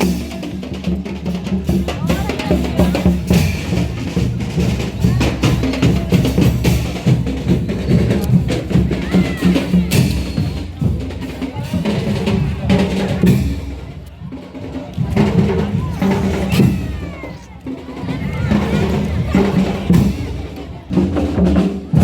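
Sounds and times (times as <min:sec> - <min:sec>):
bass drums beating: 0:00.0 - 0:22.0
snare drums beating: 0:00.0 - 0:22.0.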